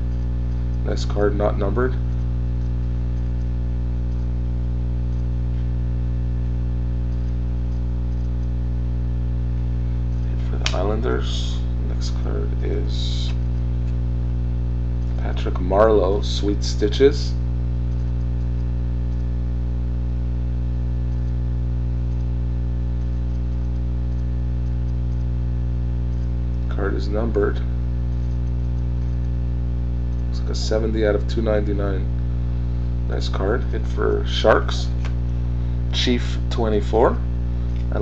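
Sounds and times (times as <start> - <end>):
electrical mains hum: 0.0 - 38.0
faint ticks: 0.0 - 38.0.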